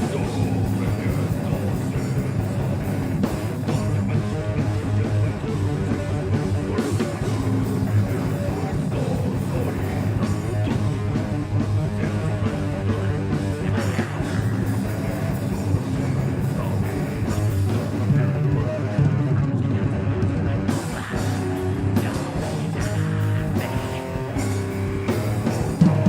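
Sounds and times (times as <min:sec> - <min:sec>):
heavy metal band playing: 0:00.0 - 0:26.0.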